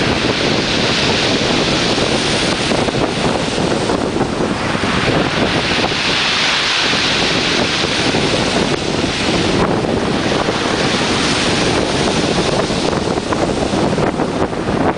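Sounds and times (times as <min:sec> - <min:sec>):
strong gusty wind on microphone: 0:00.0 - 0:14.9.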